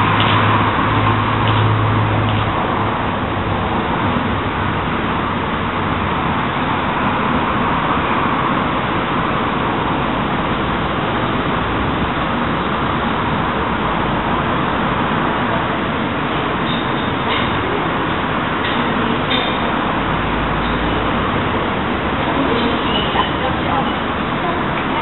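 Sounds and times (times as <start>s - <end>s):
road traffic rushing: 0.0s - 25.0s.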